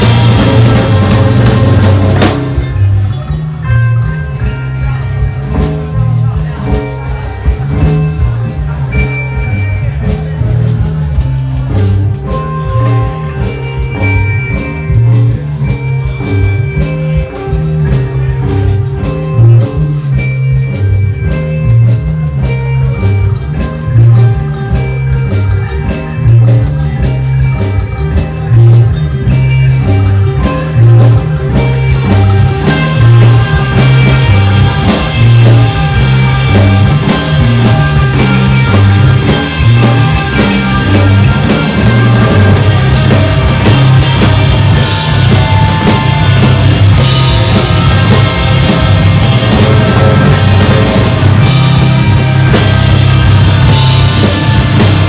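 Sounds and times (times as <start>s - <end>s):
bass guitar: 0.0s - 55.0s
drum kit: 0.0s - 55.0s
electric guitar riff: 0.0s - 55.0s.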